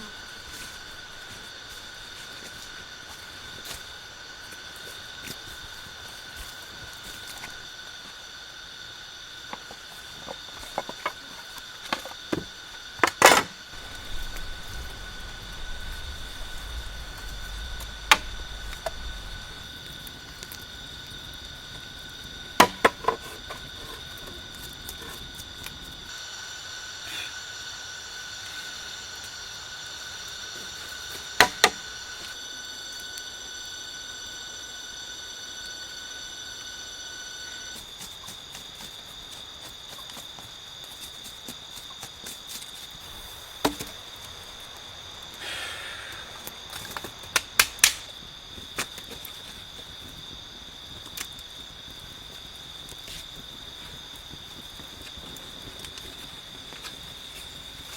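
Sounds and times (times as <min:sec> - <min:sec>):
insects buzzing: 0:00.0 - 0:57.9.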